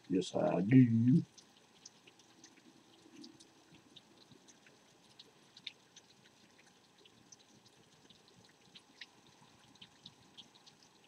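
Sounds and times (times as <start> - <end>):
light rain ticking: 0.0 - 11.0.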